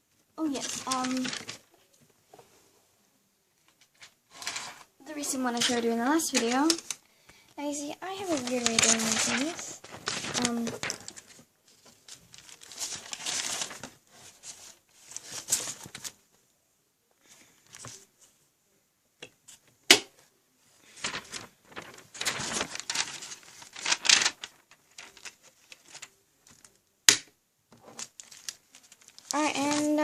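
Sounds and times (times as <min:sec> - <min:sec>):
paper rustling and shuffling: 0:00.1 - 0:02.6, 0:03.6 - 0:16.4, 0:17.2 - 0:18.4, 0:20.8 - 0:26.9, 0:27.7 - 0:30.0.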